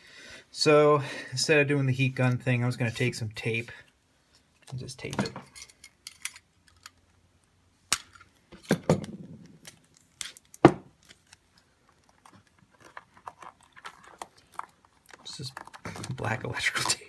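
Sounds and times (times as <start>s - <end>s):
faint handling noise: 2.0s - 17.0s.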